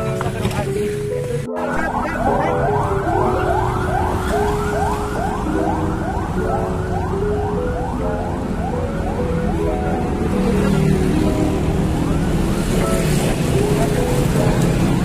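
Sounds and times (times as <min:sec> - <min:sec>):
muffled background music: 0:00.0 - 0:15.0.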